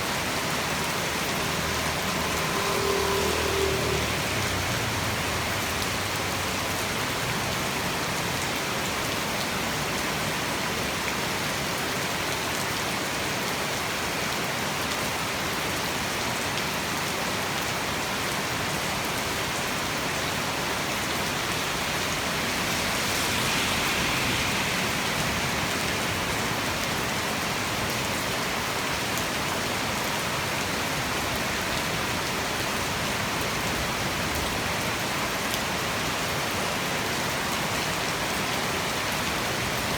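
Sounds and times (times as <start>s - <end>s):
heavy rain hissing: 0.0s - 13.9s, 17.8s - 39.9s.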